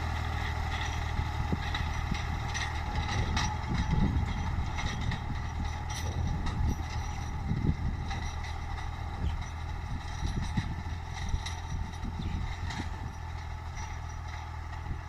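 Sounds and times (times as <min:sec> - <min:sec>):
tractor engine running: 0:00.0 - 0:15.0
irregular knocks and clatter: 0:00.2 - 0:15.0.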